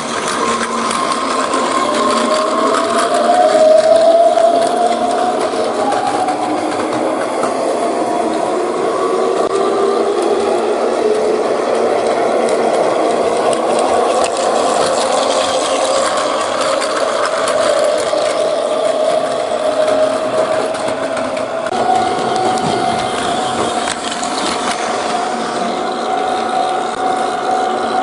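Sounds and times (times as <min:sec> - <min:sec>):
toy train motor whining: 0:00.0 - 0:28.0
wheels and gears rattling: 0:00.0 - 0:28.0.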